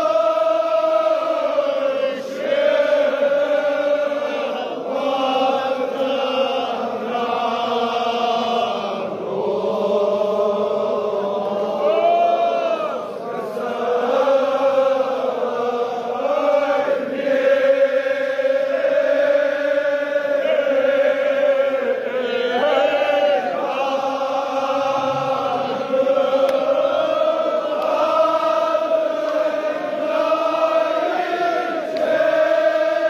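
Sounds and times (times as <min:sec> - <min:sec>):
men chanting in unison: 0:00.0 - 0:33.0.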